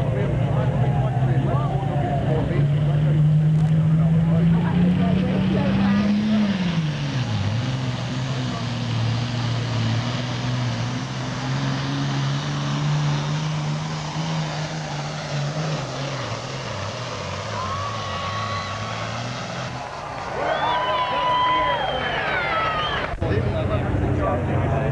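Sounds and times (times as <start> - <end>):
diesel tractor engine under load: 0.0 - 24.9.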